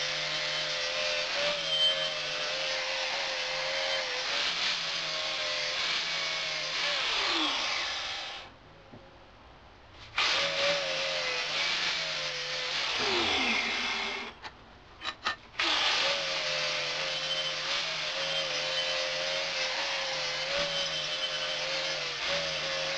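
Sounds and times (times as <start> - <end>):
power tool grinding steel: 0.0 - 8.5, 10.2 - 14.4, 15.0 - 22.9.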